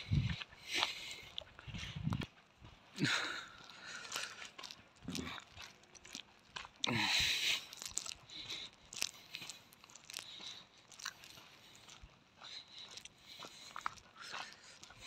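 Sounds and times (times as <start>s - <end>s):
footsteps crunching on dirt: 0.0s - 15.0s.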